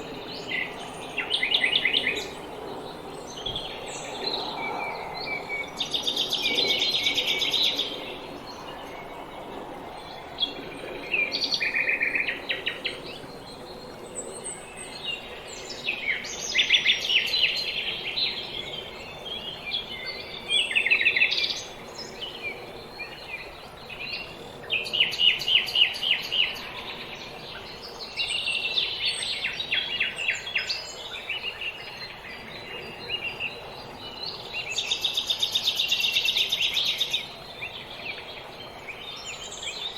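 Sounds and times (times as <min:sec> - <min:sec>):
faint outdoor ambience: 0:00.0 - 0:39.9
songbirds trilling and chirping: 0:00.0 - 0:39.9.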